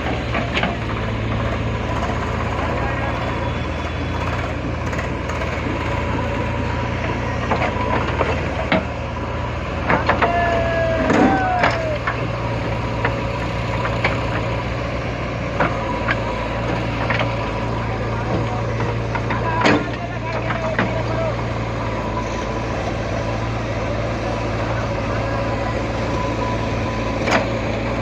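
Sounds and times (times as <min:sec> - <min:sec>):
heavy vehicle engine running: 0:00.0 - 0:28.0.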